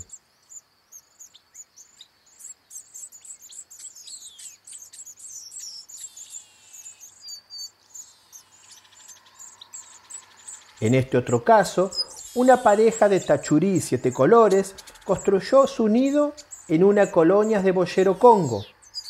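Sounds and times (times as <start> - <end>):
fast buzzy bird trill: 0.0 - 19.0
small birds chirping: 0.0 - 19.0.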